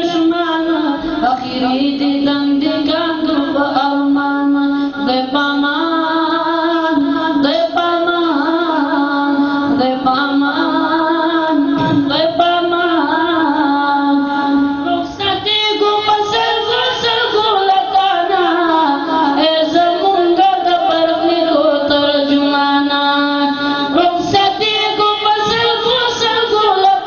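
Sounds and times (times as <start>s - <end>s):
person singing unaccompanied: 0.0s - 27.0s.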